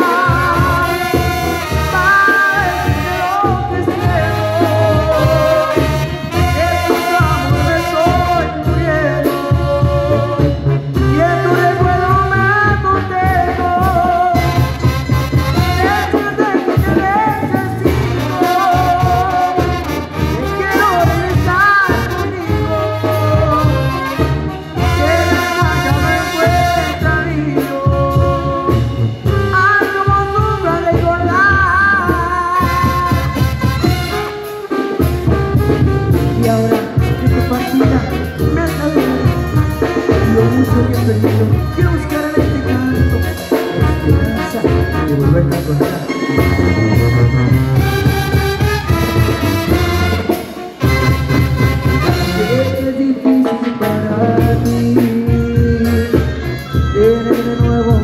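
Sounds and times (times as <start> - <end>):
steady drum beat: 0.0 - 58.0
trumpets playing melody: 0.0 - 58.0
tuba bass line: 0.0 - 58.0.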